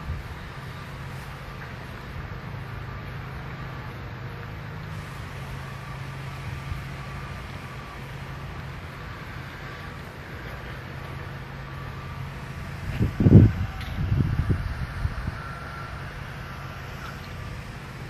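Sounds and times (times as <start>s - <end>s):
distant machinery hum: 0.0s - 18.0s.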